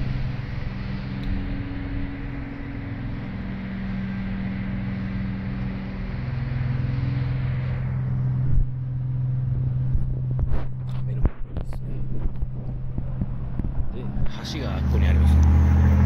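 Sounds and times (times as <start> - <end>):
motor engine droning: 0.0 - 16.0.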